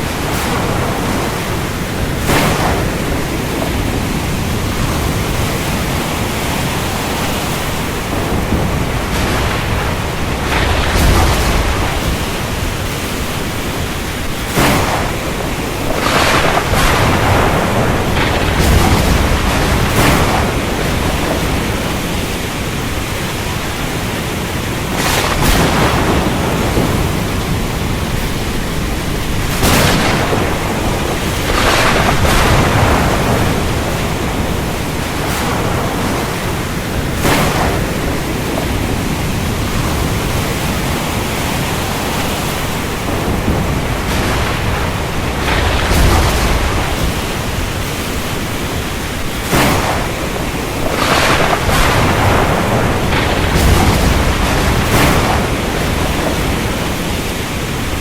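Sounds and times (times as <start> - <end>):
heavy rain: 0.0 - 58.0
low thunder rumbling: 0.0 - 58.0
sharp thunder cracks: 0.0 - 58.0.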